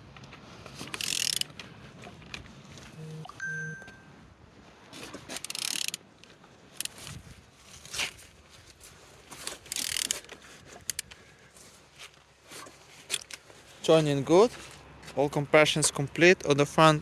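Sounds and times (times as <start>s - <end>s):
engine clicking and scraping: 0.6s - 3.0s, 5.0s - 17.0s.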